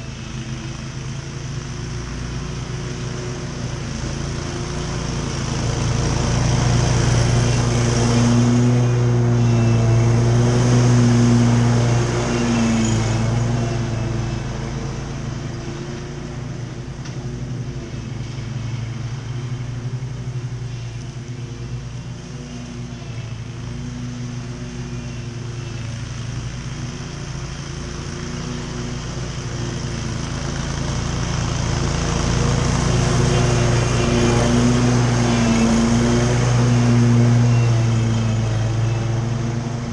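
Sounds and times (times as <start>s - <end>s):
lawn mower engine droning: 0.0s - 39.9s.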